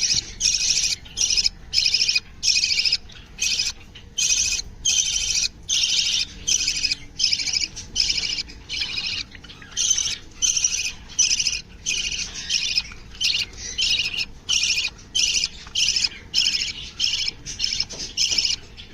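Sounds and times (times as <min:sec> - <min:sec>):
cage birds calling: 0:00.0 - 0:18.9.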